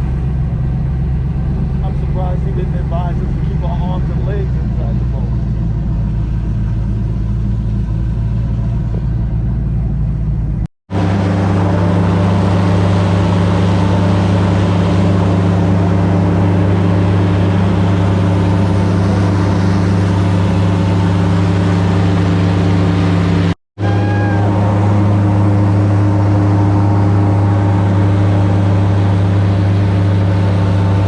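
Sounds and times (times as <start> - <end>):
airboat engine drone: 0.0 - 31.0.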